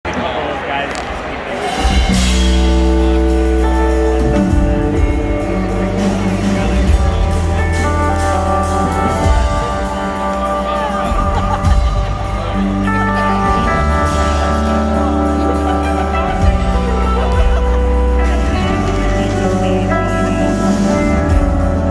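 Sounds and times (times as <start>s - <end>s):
rock band playing live: 0.9s - 21.9s.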